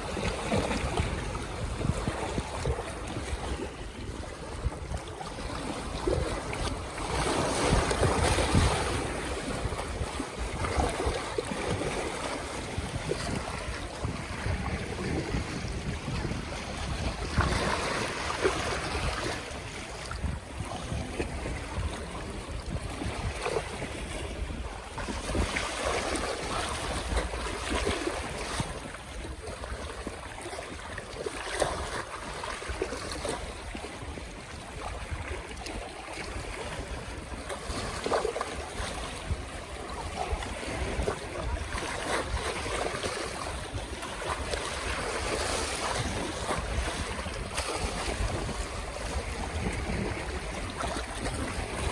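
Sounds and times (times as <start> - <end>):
small waves lapping and splashing: 0.0 - 51.9
wind rumbling on microphone: 0.0 - 51.9.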